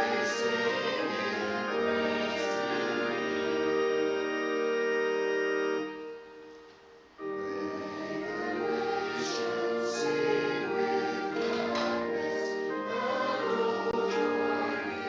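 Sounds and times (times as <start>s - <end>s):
congregation singing a hymn: 0.0s - 6.2s, 7.2s - 15.0s
church organ playing: 0.0s - 15.0s.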